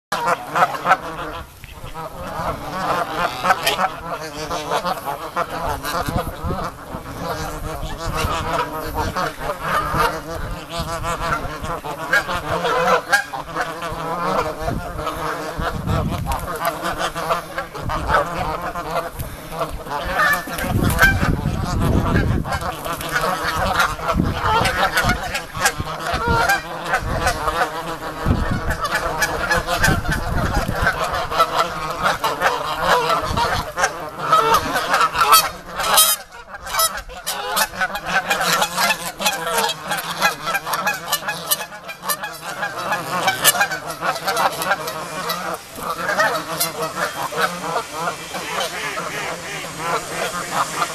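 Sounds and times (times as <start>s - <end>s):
geese honking: 0.1s - 50.9s.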